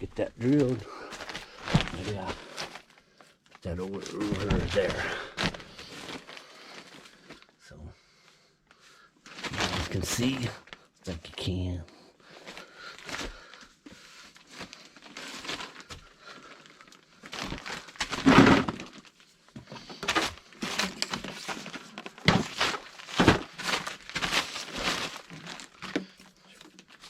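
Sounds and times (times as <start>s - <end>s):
objects rustling and knocking: 0.4s - 7.4s, 9.2s - 10.8s, 12.4s - 27.0s.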